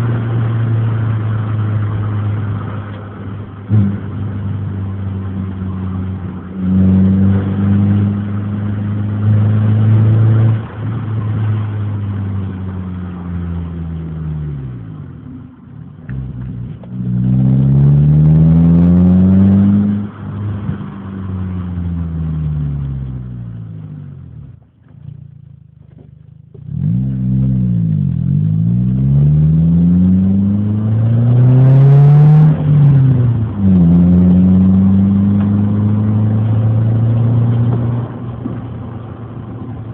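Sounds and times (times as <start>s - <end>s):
car exhaust accelerating through gears: 0.0s - 39.9s.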